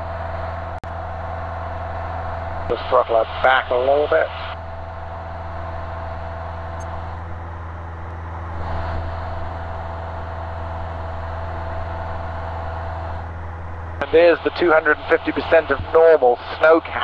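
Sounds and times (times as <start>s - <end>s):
small plane engine drone: 0.0s - 17.0s.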